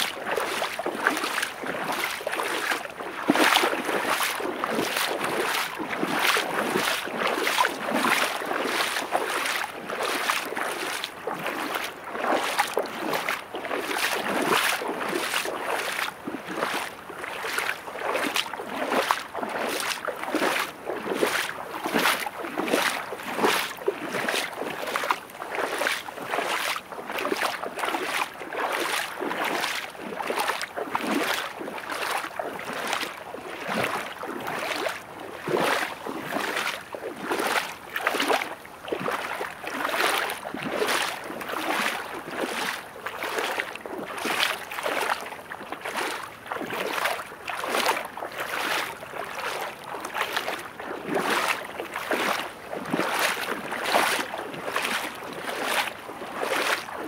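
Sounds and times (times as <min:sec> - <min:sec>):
footsteps splashing through seawater: 0:00.0 - 0:57.0.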